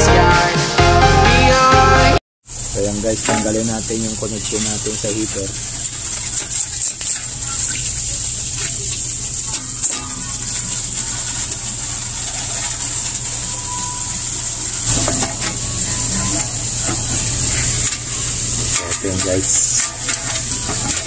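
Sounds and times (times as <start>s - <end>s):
steady hiss: 2.5s - 21.0s.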